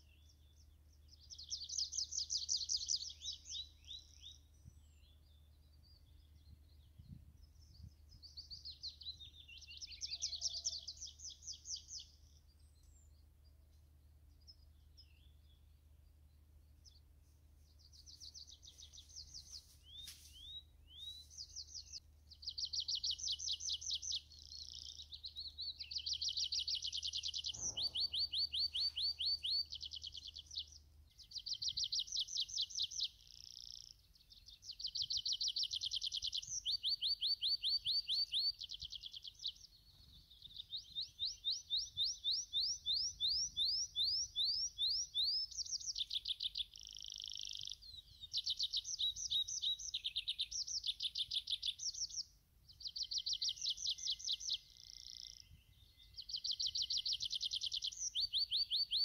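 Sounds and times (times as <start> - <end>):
bird singing trills: 0.0 - 17.1, 17.7 - 59.0.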